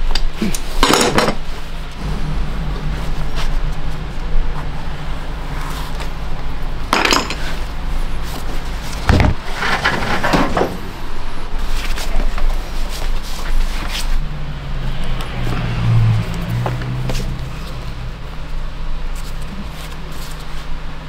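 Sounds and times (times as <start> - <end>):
steady low hum: 1.4 - 21.0.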